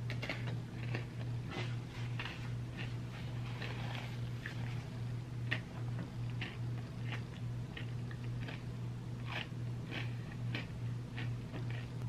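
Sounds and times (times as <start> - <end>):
steady low hum: 0.0 - 12.0
chewing ice cream: 0.1 - 12.0.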